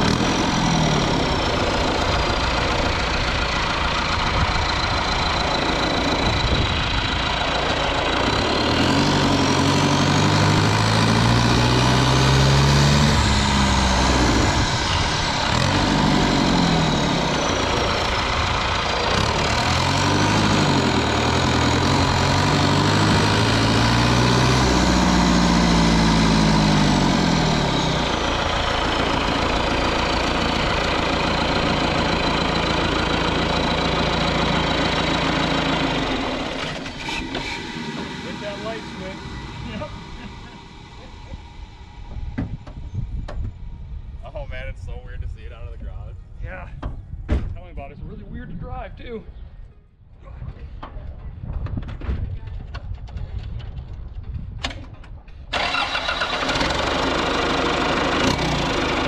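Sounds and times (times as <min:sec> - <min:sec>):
diesel engine under load: 0:00.0 - 0:48.2, 0:50.6 - 0:59.0.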